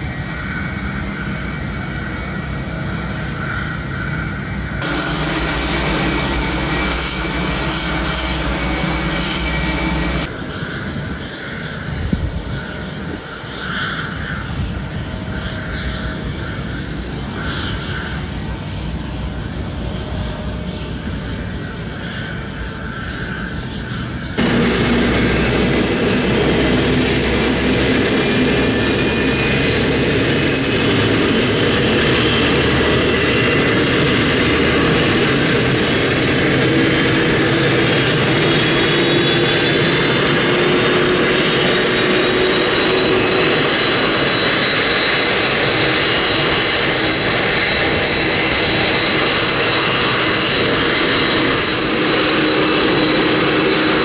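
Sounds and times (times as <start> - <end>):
jet engines with high whine: 0.0 - 54.0.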